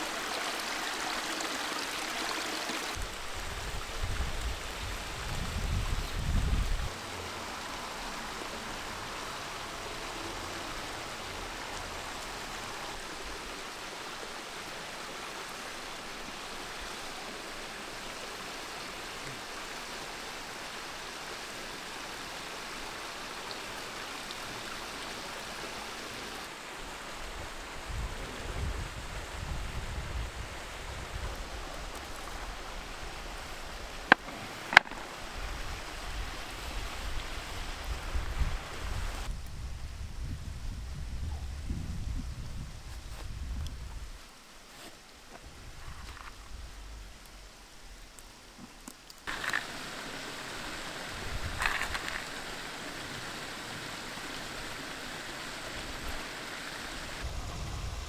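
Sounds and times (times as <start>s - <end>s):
stream rushing over rocks: 0.0s - 39.4s, 44.2s - 57.4s.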